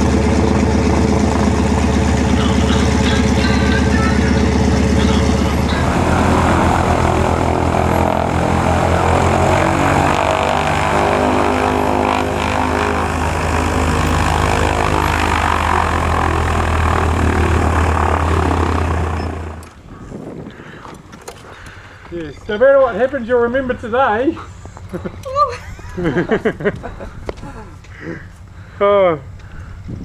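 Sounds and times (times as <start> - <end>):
light aircraft engine and propeller: 0.0 - 22.1, 23.6 - 30.0.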